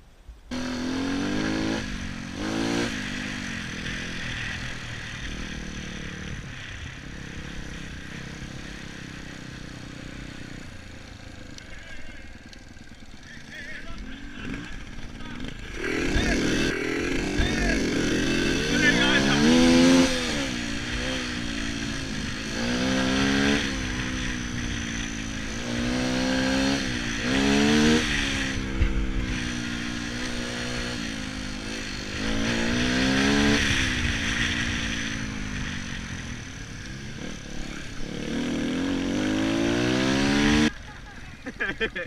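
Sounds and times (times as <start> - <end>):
dirt bike engine revving: 0.5 - 42.0.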